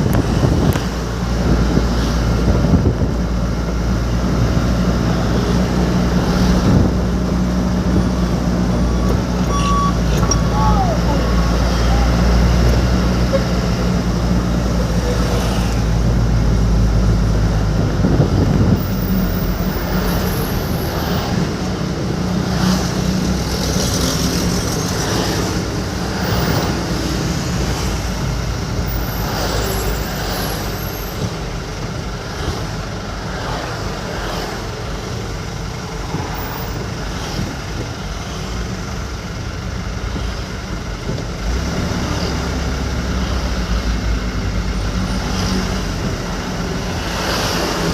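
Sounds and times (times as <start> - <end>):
road and traffic noise: 0.0 - 47.9
truck engine drone: 0.0 - 47.9.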